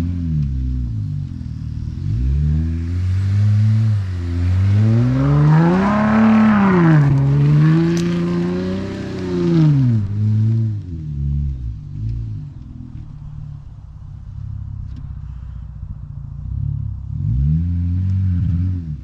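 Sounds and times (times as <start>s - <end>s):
engine exhaust revving: 0.0s - 19.0s.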